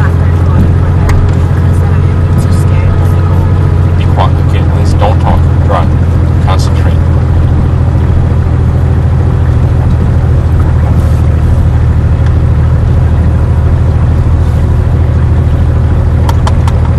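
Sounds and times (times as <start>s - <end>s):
car engine droning: 0.0s - 16.9s.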